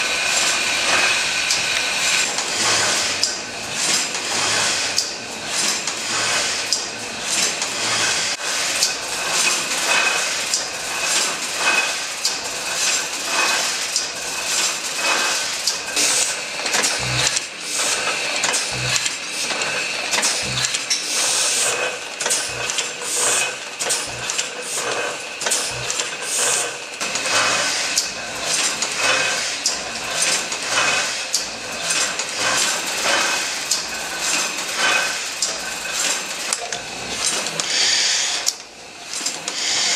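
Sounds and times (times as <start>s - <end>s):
printing press clicking and clanking: 0.0s - 39.9s.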